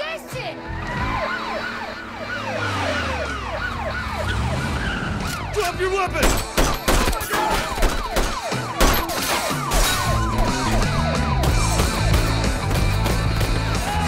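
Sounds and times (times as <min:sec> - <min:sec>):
police sirens wailing: 0:00.4 - 0:14.0.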